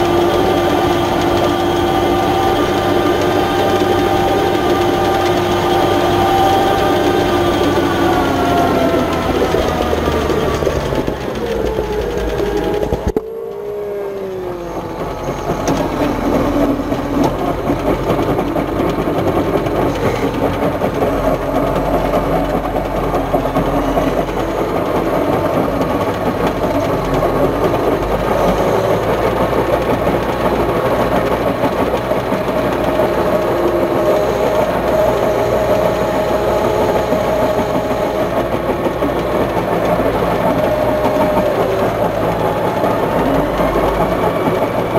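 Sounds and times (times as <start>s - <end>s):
mechanical whir: 0.0s - 44.9s
tractor engine running: 0.0s - 44.9s.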